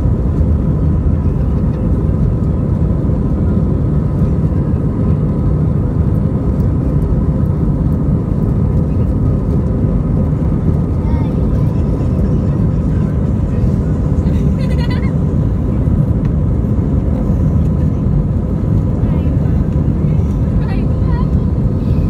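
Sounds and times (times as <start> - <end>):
rumble of jet engines and airflow: 0.0 - 22.0.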